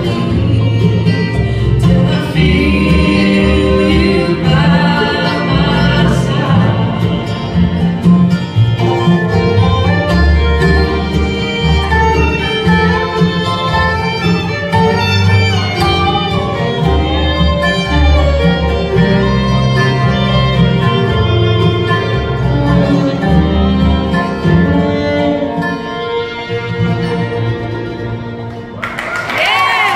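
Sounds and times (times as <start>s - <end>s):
bass notes: 0.0s - 28.9s
bluegrass band playing: 0.0s - 29.0s
fiddle leading: 0.0s - 29.5s.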